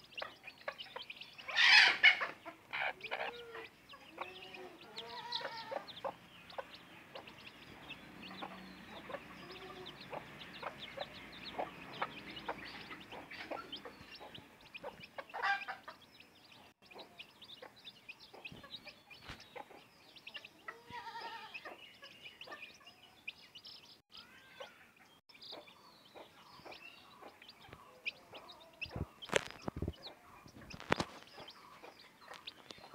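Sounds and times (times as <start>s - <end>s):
hen clucking: 0.0s - 23.2s, 24.2s - 32.9s
baby chicks peeping: 0.0s - 32.9s.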